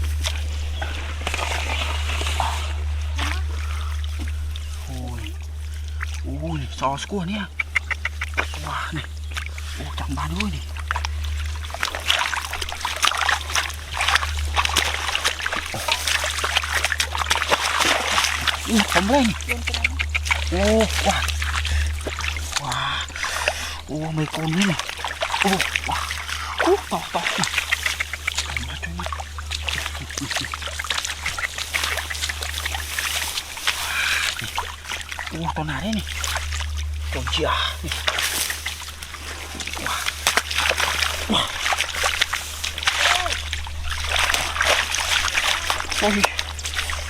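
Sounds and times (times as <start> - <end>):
steady low hum: 0.0 - 47.0
water splashing and sloshing: 0.0 - 47.0.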